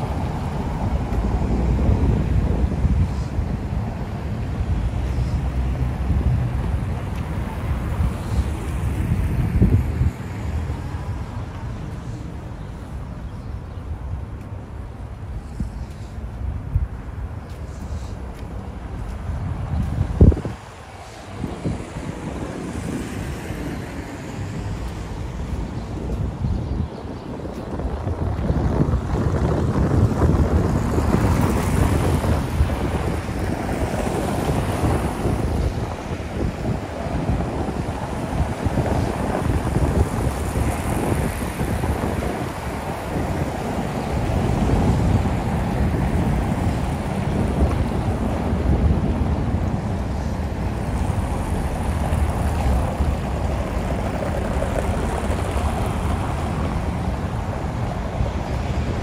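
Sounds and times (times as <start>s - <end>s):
cars driving on cobblestones: 0.0s - 59.0s
low rumble of traffic: 0.0s - 59.0s
wind on the microphone: 0.0s - 59.0s.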